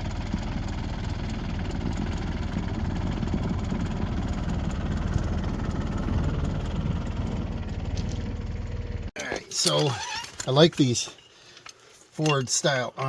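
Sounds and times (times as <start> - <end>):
tractor engine running: 0.0 - 11.1.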